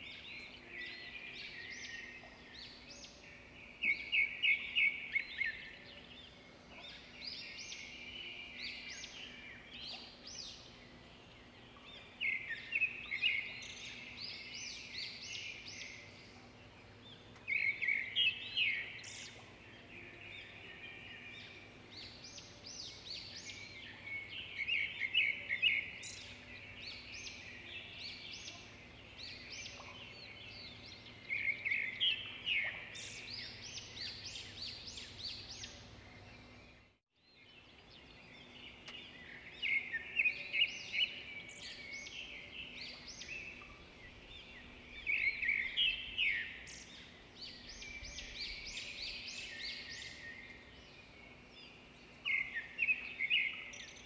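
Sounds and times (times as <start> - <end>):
bird singing chirps and trills: 0.0 - 54.0.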